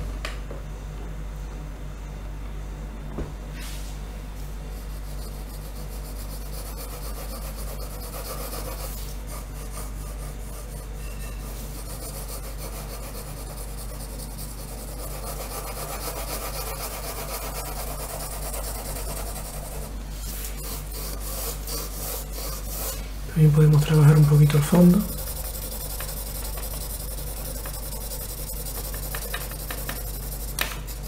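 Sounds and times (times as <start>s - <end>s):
steady low hum: 0.0s - 31.0s
pencil scratching on paper: 4.7s - 31.0s.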